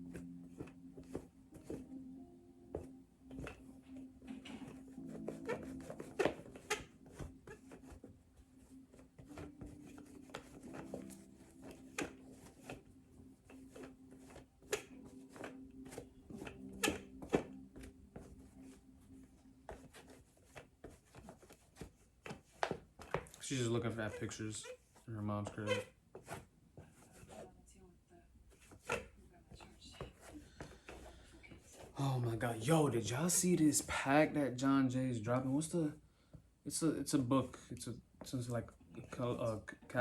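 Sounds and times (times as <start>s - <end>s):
faint background music: 0.0s - 40.0s.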